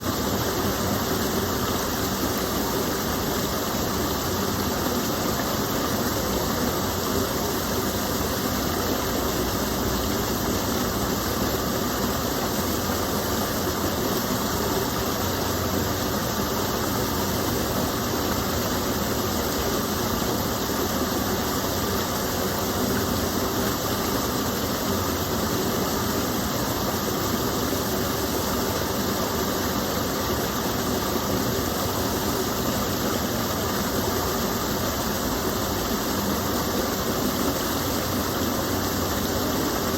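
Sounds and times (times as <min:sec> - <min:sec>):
water falling and splashing: 0:00.0 - 0:39.9.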